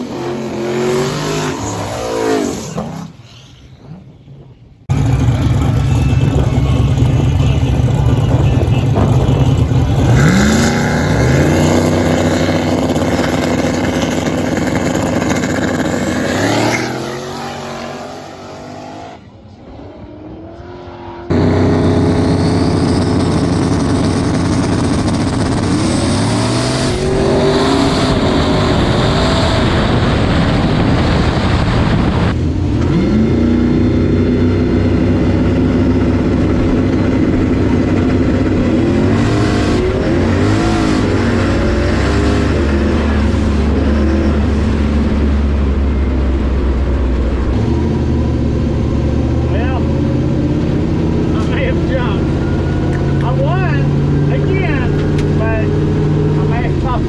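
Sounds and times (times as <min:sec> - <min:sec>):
race truck engine accelerating: 0:04.9 - 0:57.0.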